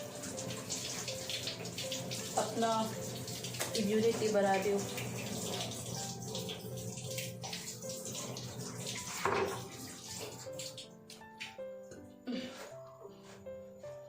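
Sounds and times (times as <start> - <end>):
running water: 0.0 - 12.0
soft background music: 0.0 - 14.0.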